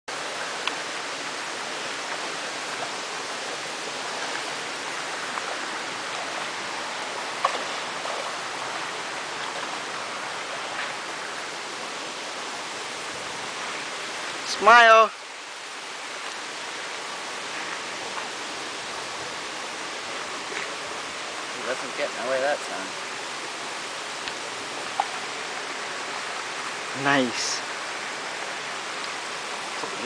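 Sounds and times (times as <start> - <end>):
river water rushing: 0.1 - 30.0.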